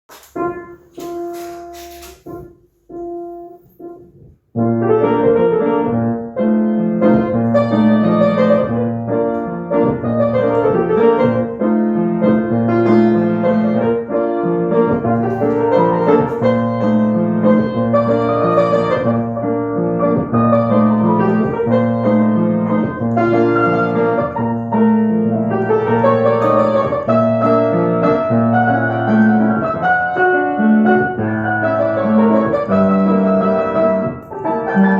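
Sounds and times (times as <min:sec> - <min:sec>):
piano keyboard music: 0:00.1 - 0:34.9.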